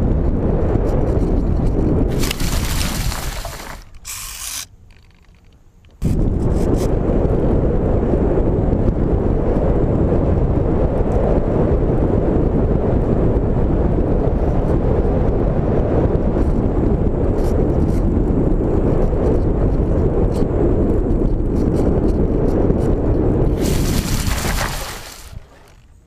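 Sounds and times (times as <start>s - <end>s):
wind rush over microphone: 0.0s - 4.6s, 6.0s - 26.0s.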